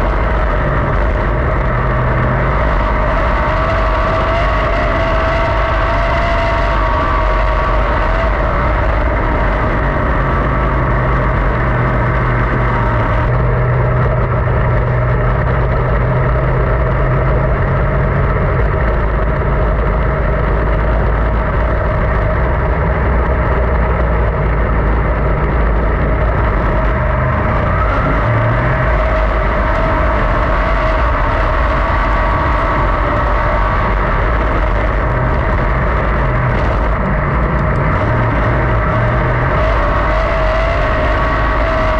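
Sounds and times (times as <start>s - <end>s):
race car engine droning: 0.0s - 41.9s.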